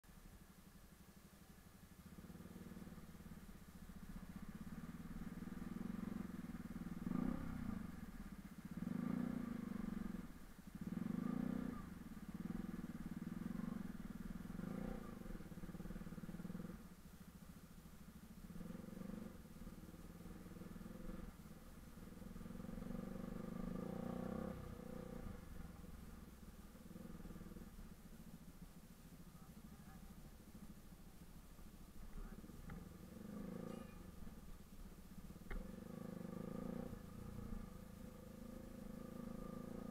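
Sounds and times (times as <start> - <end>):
motorcycle engine running: 0.1 - 39.9.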